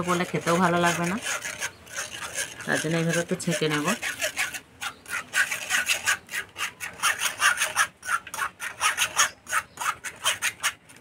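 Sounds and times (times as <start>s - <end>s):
metal spatula scraping wire strainer: 0.0s - 10.8s.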